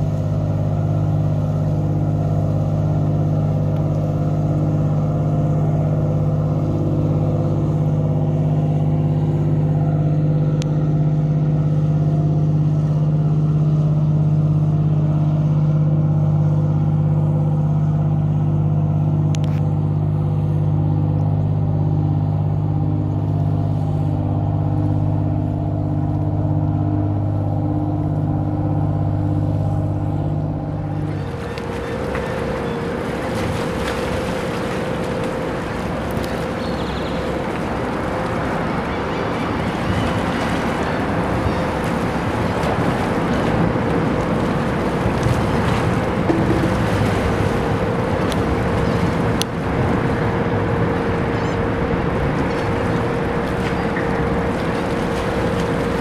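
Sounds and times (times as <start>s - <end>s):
boat diesel engine drone: 0.0s - 56.0s.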